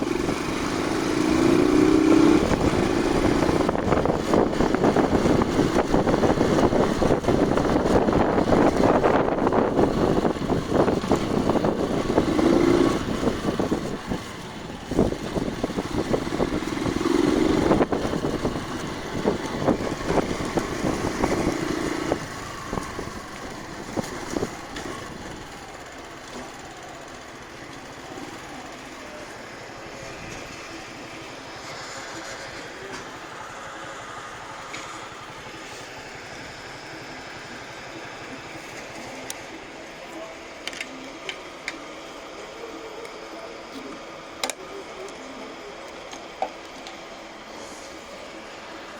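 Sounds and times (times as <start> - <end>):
motorcycle engine running: 0.0 - 41.8.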